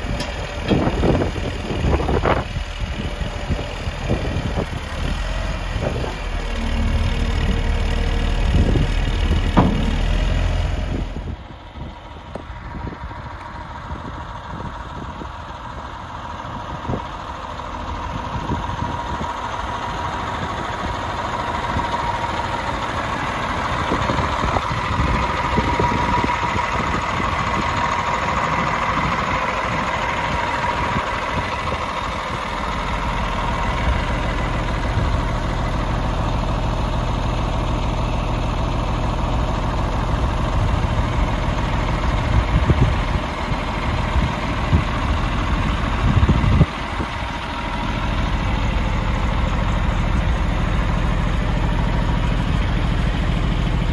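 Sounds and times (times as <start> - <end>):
diesel truck engine idling: 0.0 - 53.9
low engine surges: 0.0 - 53.9.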